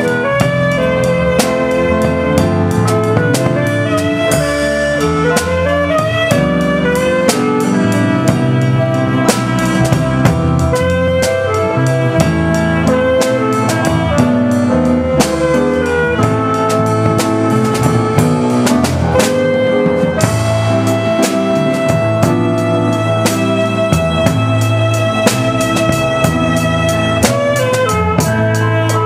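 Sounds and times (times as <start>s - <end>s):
drum kit beat: 0.0s - 29.0s
live band music: 0.0s - 29.0s
sliding melody line: 0.0s - 29.0s.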